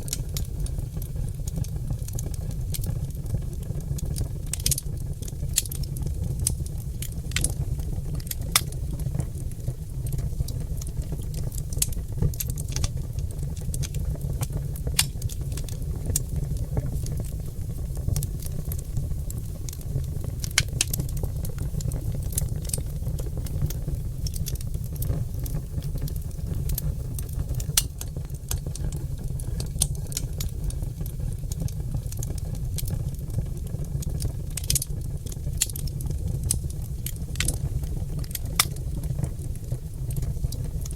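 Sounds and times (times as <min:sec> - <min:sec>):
fire low rumble: 0:00.0 - 0:40.9
log fire crackling and popping: 0:00.0 - 0:40.9.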